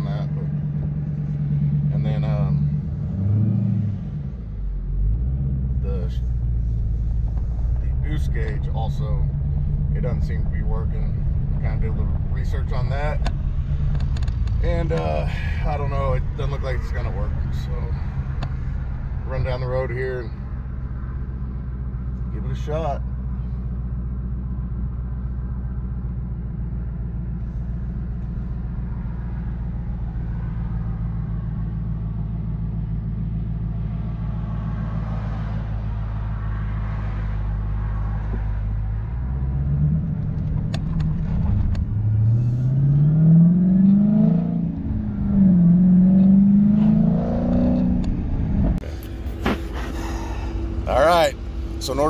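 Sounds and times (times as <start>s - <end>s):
car engine droning and revving: 0.0s - 52.0s.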